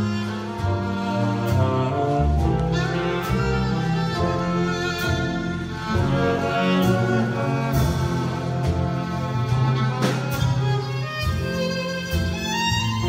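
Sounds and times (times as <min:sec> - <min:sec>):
trombone: 0:00.0 - 0:11.4
drums: 0:00.0 - 0:13.0
piano: 0:00.0 - 0:13.0
upright bass: 0:00.0 - 0:13.0
violin: 0:00.0 - 0:13.0.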